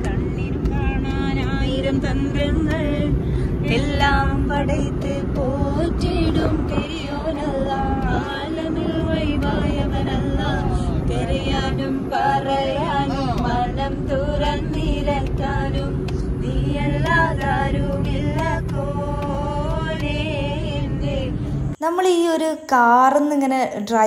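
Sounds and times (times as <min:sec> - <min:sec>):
people singing together: 0:00.0 - 0:21.5
car road and engine rumble: 0:00.0 - 0:21.8.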